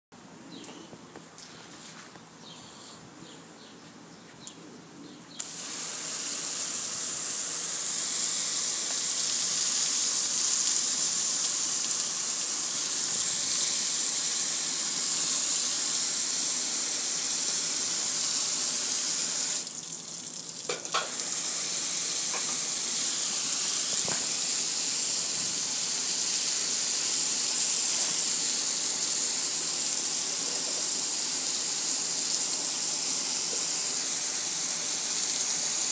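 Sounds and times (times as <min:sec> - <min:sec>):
hose spray hitting metal grill: 0:05.4 - 0:19.8, 0:20.6 - 0:35.9
water splashing and running off: 0:05.4 - 0:35.9.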